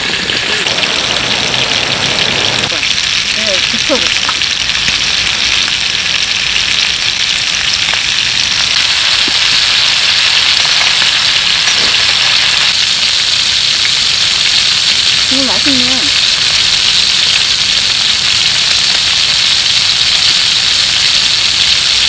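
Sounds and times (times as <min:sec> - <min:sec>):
skewers sizzling on griddle: 0:00.0 - 0:22.0.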